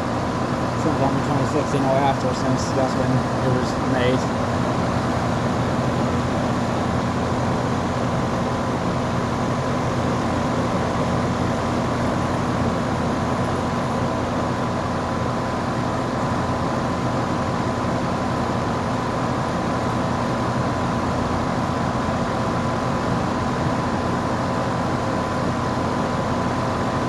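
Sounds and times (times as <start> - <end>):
heat pump humming: 0.0 - 27.0.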